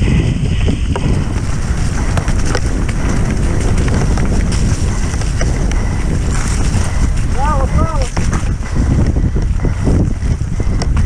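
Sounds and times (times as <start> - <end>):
bike rattling and knocking: 0.0 - 11.0
wind buffeting microphone: 0.0 - 11.0.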